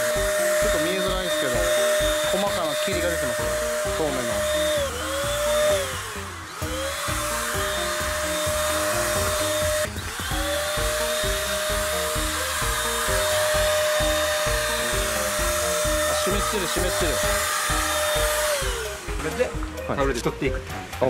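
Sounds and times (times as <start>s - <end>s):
spray gun motor whining: 0.0s - 19.8s
background music with plodding beat: 0.0s - 21.0s.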